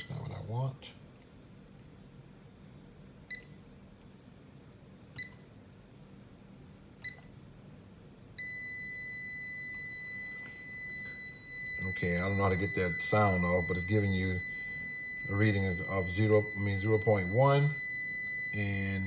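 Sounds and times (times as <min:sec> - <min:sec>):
multimeter steady continuity tone: 0:00.0 - 0:19.0.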